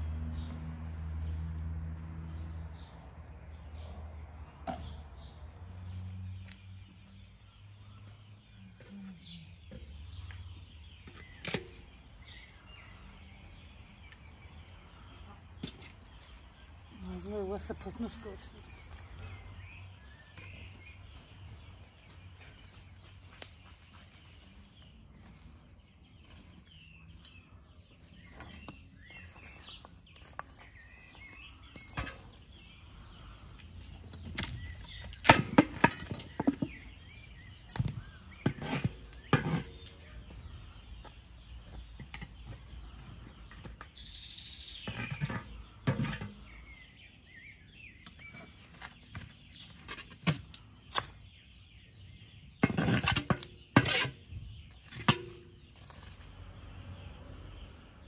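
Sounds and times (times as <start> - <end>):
birds chirping: 2.7 - 58.0.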